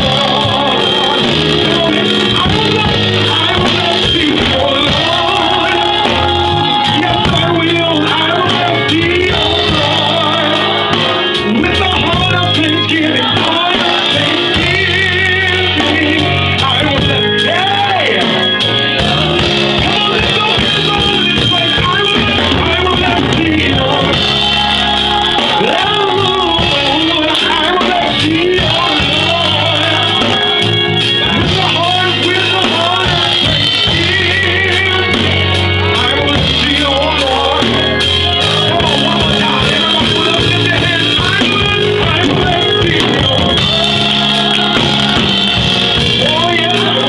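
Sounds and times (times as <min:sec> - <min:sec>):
live praise band playing: 0:00.0 - 0:47.0
voices singing along: 0:00.0 - 0:47.0.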